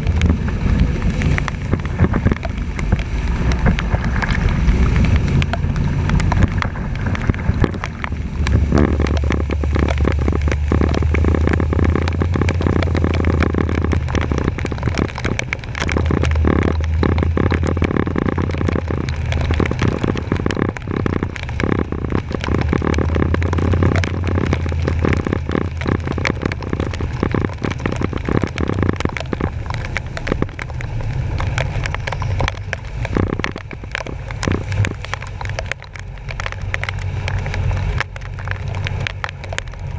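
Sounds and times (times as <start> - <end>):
truck engine drone: 0.0 - 39.9
water splashing against camera: 0.0 - 39.9.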